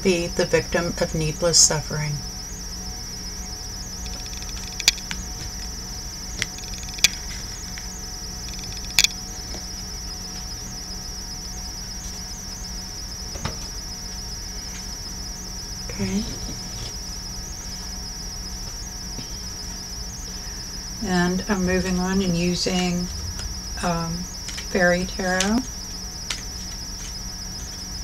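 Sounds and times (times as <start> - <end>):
cricket chorus: 0.0 - 28.0.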